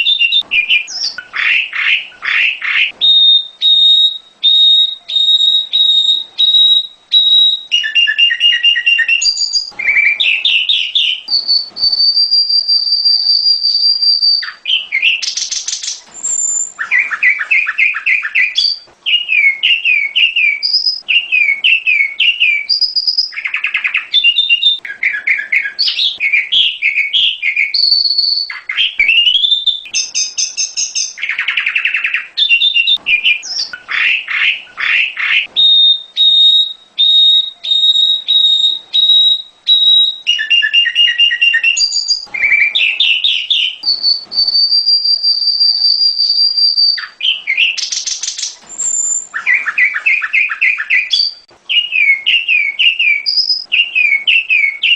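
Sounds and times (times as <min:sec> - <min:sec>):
bird singing varied whistles: 0:00.0 - 0:54.9.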